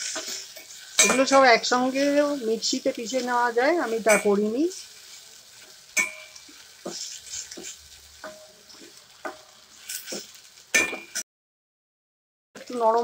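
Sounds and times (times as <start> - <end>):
food sizzling in oil: 0.0 - 11.3, 12.6 - 13.0.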